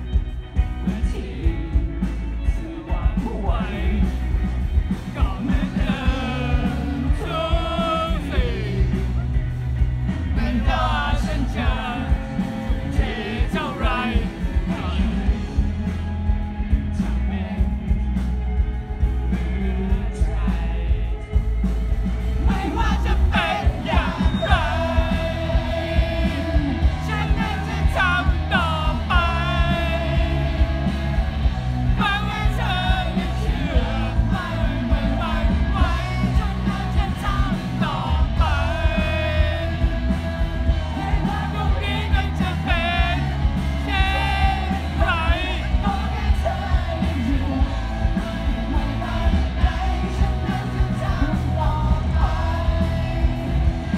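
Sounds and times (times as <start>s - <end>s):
man singing: 0.0s - 9.4s, 10.3s - 21.6s, 22.4s - 31.2s, 31.8s - 53.9s
live rock band playing: 0.0s - 53.9s.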